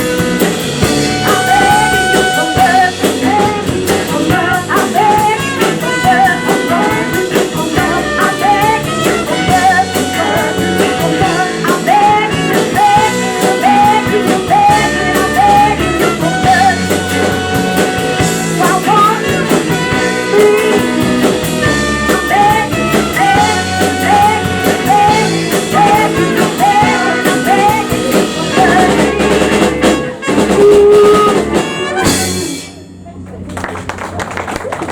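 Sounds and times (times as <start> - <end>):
live blues-rock band: 0.0 - 34.9
person singing: 0.8 - 32.8.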